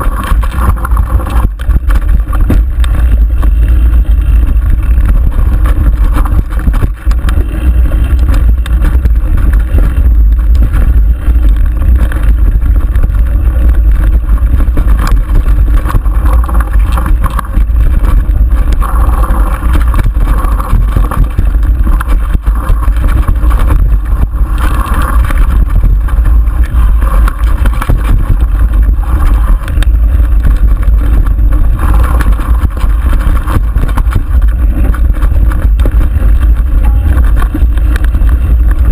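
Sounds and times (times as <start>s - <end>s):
bike rattling and knocking: 0.0s - 38.9s
wind rumbling on microphone: 0.0s - 38.9s.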